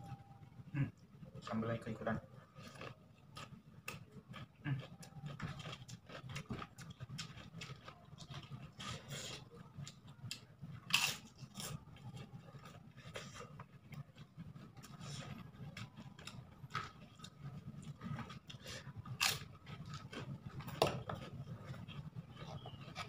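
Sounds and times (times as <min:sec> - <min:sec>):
steady low hum: 0:00.0 - 0:23.0
person chewing: 0:02.3 - 0:23.0.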